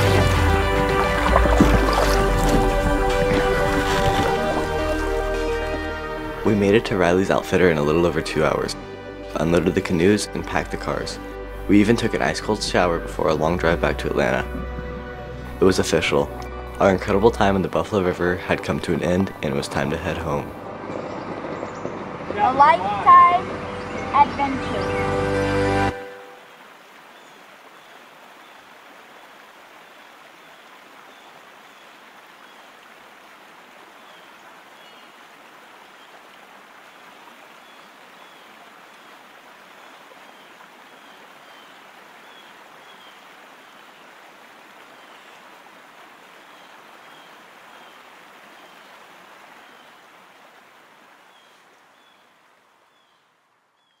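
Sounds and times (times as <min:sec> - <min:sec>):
flowing river water: 0:00.0 - 0:54.0.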